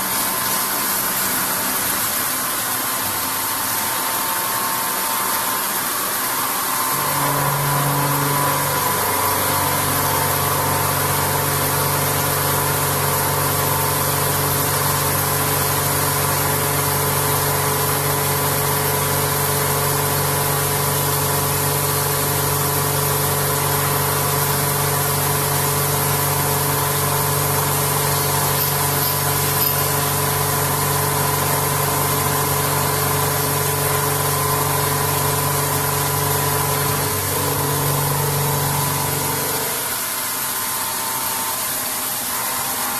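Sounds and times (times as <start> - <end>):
milling machine whining: 0.0 - 42.9.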